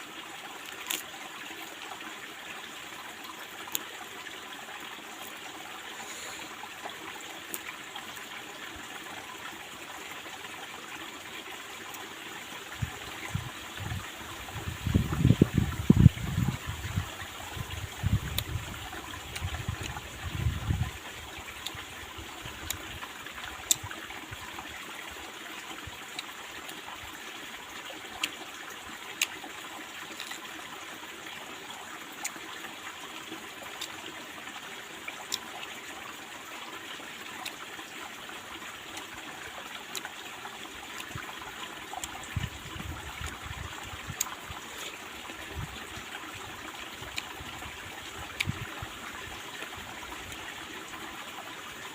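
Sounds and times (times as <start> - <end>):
stream babbling: 0.0 - 51.9.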